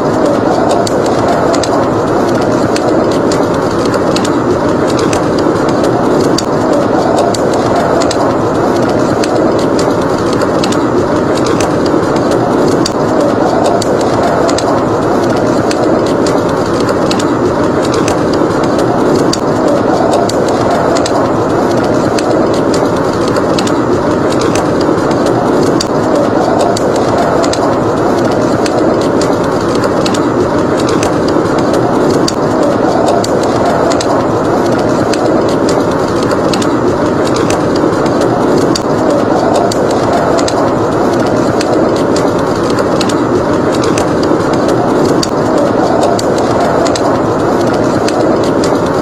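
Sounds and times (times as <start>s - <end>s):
blizzard wind blowing: 0.0s - 49.0s
wood fire crackling: 0.0s - 49.0s.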